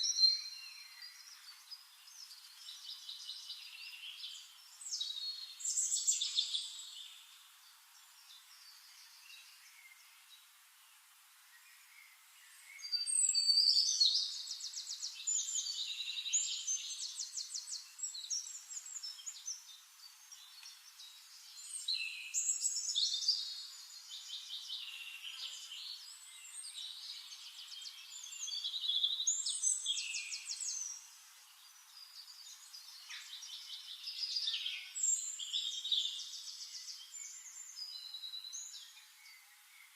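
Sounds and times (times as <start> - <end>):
faint background hiss: 0.0 - 39.9
songbirds singing: 0.0 - 39.9.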